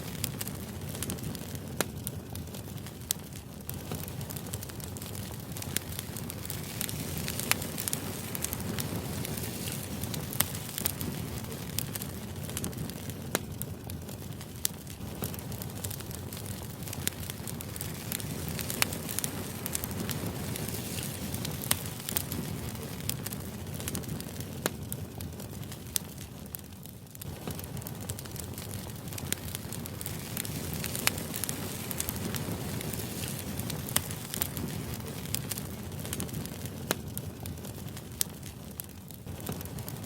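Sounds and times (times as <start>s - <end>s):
fire low rush: 0.0s - 26.6s, 27.2s - 40.0s
fire popping and snapping: 0.0s - 40.0s.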